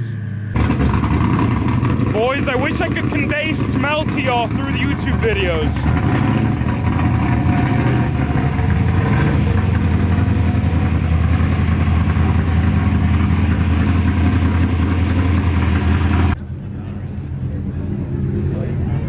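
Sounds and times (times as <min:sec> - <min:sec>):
car engine running low speed: 0:00.0 - 0:19.0.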